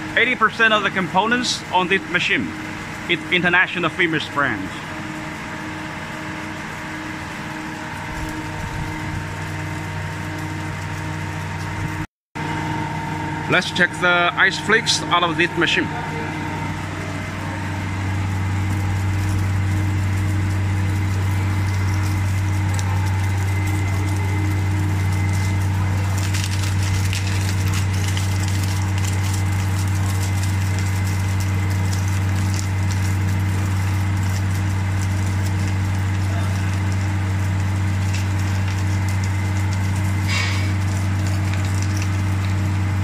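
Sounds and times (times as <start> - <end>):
ice machine humming: 0.0 - 43.0.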